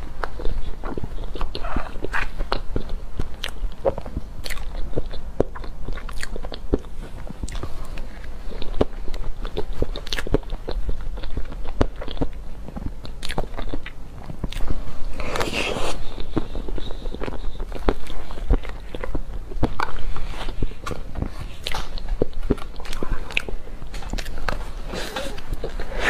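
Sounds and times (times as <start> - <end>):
wet mouth clicks and chewing: 0.0 - 14.8, 16.2 - 24.7.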